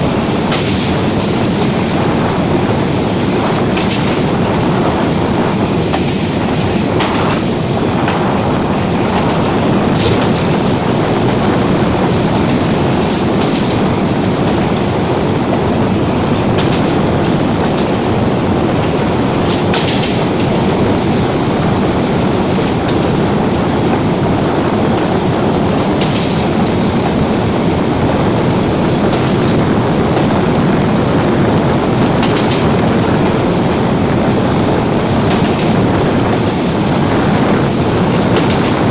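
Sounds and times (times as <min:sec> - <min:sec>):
train rumbling along track: 0:00.0 - 0:38.9
wheels clicking over rails: 0:00.0 - 0:38.9.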